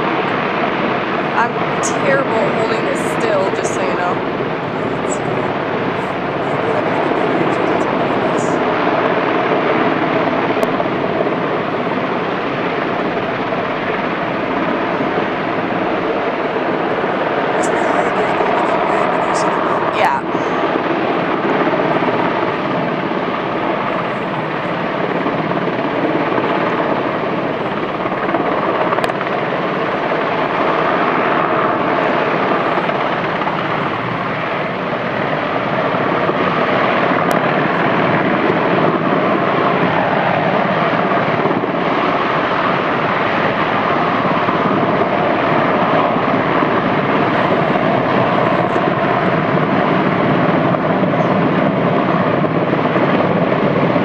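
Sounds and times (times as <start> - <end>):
helicopter hovering: 0.0 - 54.0.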